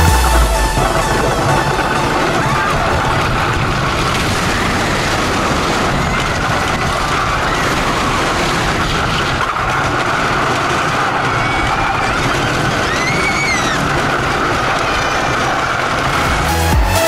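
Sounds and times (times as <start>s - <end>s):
roller coaster train rushing on track: 0.0s - 16.7s.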